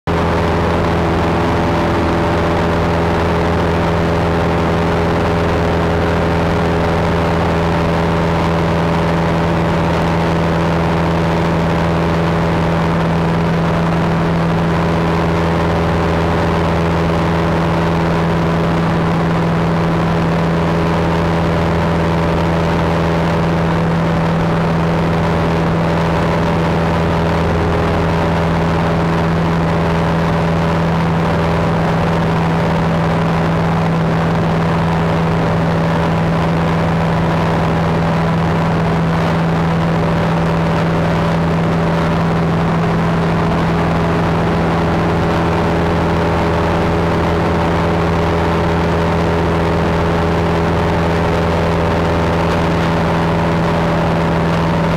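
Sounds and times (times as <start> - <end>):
airplane engine drone: 0.1 - 54.9
rush of air noise: 0.1 - 54.9.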